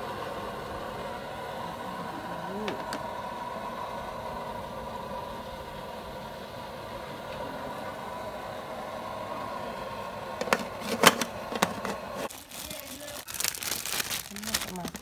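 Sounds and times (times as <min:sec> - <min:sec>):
steamer pot hissing on burner: 0:00.0 - 0:13.3.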